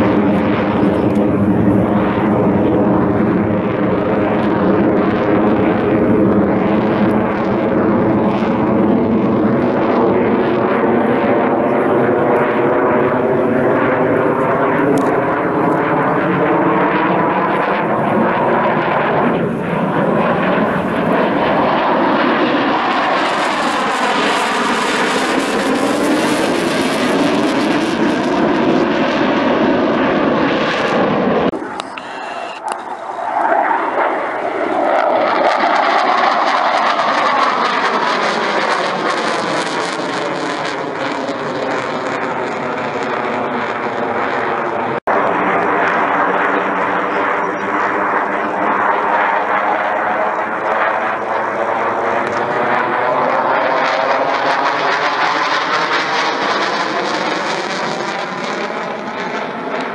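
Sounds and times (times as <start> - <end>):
jet engine roaring overhead: 0.0 - 59.9.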